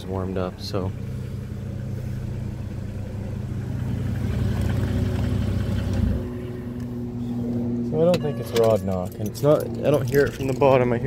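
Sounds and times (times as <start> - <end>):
car engine idling: 0.0 - 11.0
engine ticking: 0.0 - 11.0.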